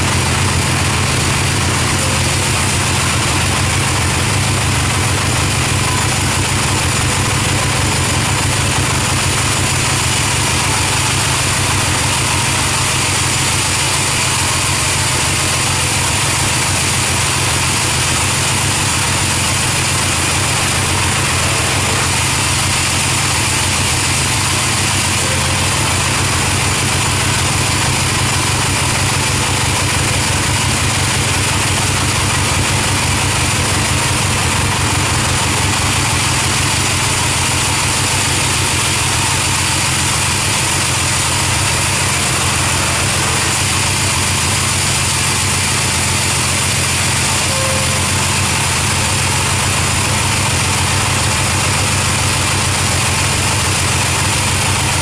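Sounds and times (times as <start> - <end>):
band saw machine hum: 0.0 - 55.0
saw blade cutting wood: 0.0 - 55.0.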